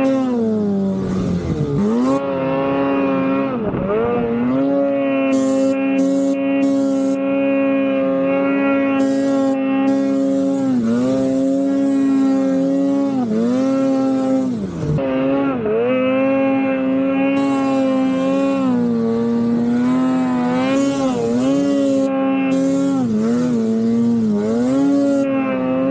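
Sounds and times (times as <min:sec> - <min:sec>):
snowmobile engine revving: 0:00.0 - 0:25.9.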